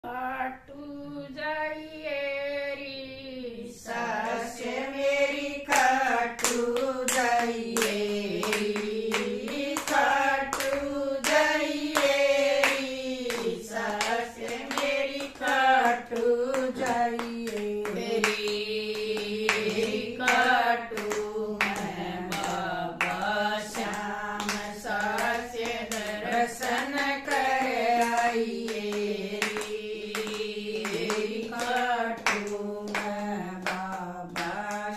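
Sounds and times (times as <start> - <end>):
women singing together: 0.0 - 34.9
hand-clapping: 4.2 - 34.9.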